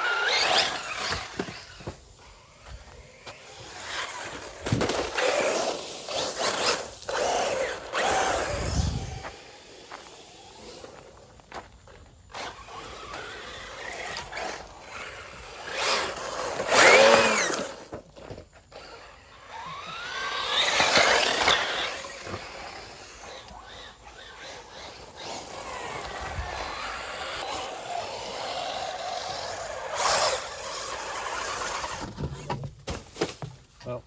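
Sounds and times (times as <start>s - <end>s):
rc buggy motor whining: 0.0s - 32.8s.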